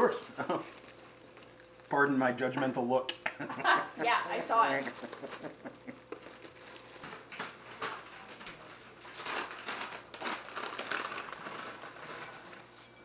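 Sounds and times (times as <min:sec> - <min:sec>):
plastic packet crinkling: 0:00.4 - 0:02.2, 0:04.1 - 0:12.8.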